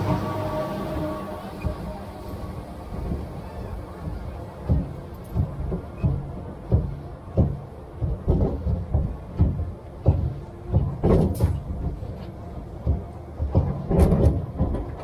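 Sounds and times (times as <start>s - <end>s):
low clunks of track: 0.0s - 15.0s
roller coaster rumbling on track: 0.0s - 15.0s.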